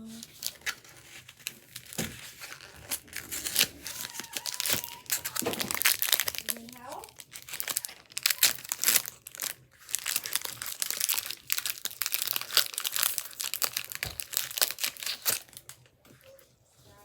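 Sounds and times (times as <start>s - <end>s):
foil wrapper crinkling and tearing: 0.0s - 16.3s.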